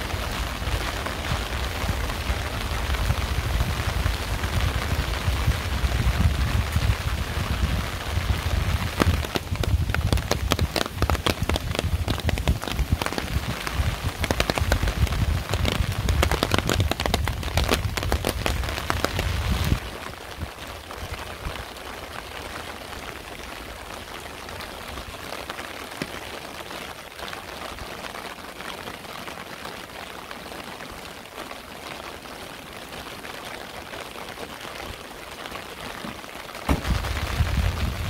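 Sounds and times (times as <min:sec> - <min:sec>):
heavy raindrops pattering: 0:00.0 - 0:38.0
rain hissing: 0:00.0 - 0:38.0.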